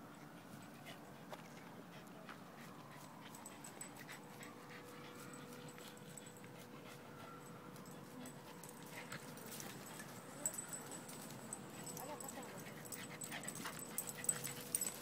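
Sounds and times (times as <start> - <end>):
dogs panting: 0.2 - 15.0.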